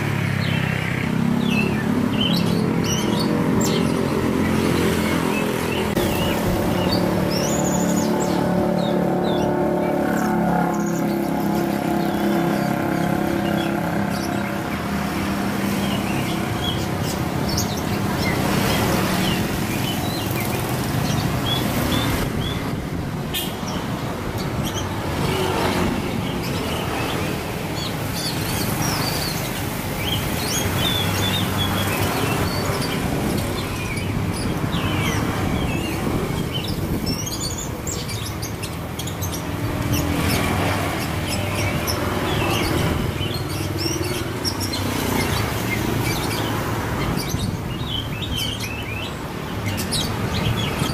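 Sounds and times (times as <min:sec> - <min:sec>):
steady noisy background: 0:00.0 - 0:50.9
magpie-robin singing: 0:00.1 - 0:25.1, 0:26.0 - 0:50.9.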